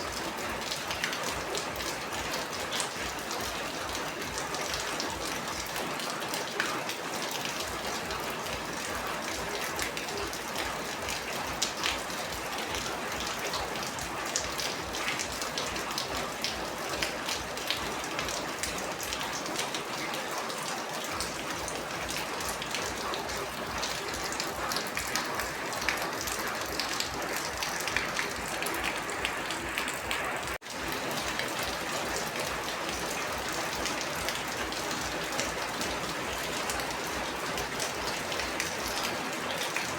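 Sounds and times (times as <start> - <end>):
raindrops pattering: 0.0 - 39.9
steady rainfall: 0.0 - 39.9.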